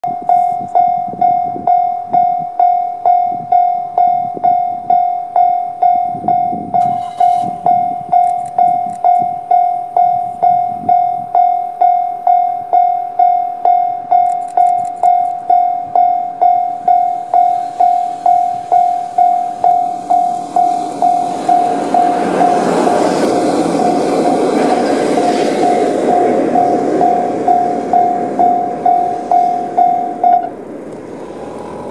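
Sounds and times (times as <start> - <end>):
level crossing bell ringing: 0.0 - 23.0, 25.6 - 30.5
freight train rumble: 0.0 - 31.9.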